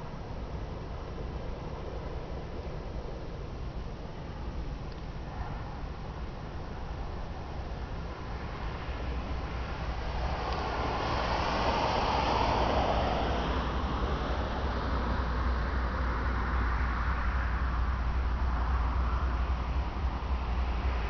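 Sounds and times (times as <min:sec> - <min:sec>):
low steady rumble: 0:00.0 - 0:21.0
road traffic: 0:00.0 - 0:21.0.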